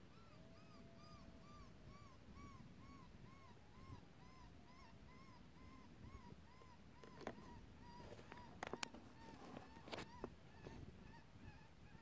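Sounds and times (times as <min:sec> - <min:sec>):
coyote howl: 0:00.0 - 0:12.0
coyote yips: 0:00.0 - 0:12.0.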